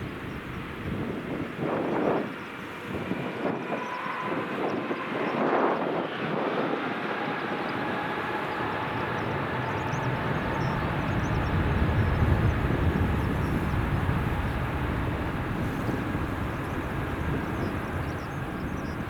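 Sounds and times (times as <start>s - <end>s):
jet airliner passing: 0.0s - 19.0s
wind buffeting microphone: 0.0s - 19.0s.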